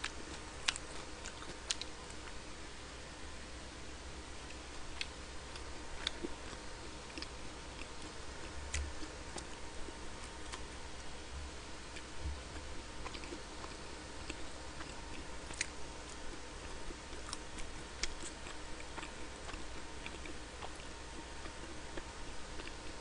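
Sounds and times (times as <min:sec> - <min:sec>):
person chewing quietly: 0:00.0 - 0:02.4, 0:04.4 - 0:11.1, 0:11.9 - 0:23.0.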